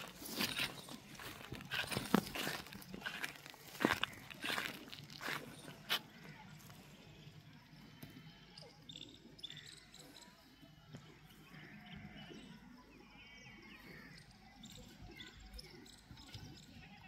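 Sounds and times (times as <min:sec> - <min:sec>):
faint high-pitched chirps: 0:00.0 - 0:17.0.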